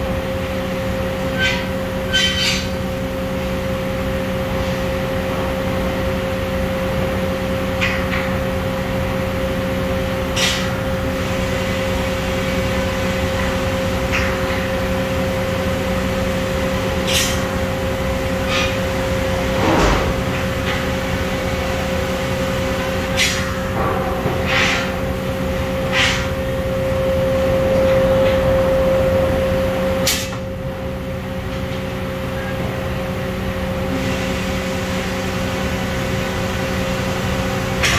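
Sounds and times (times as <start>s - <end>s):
workshop machine hum: 0.0s - 37.9s.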